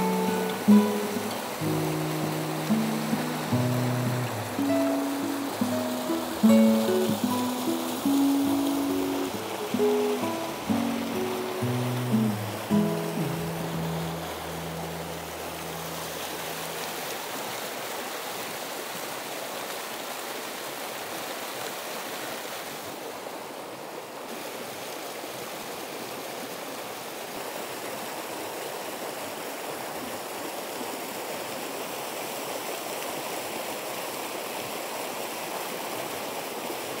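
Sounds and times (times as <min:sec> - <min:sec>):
stream flowing over rocks: 0:00.0 - 0:37.0.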